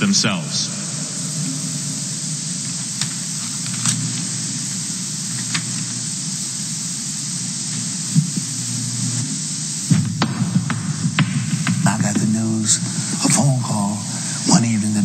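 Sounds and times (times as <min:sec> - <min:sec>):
low hum: 0:00.0 - 0:15.0
steady hiss: 0:00.0 - 0:15.0.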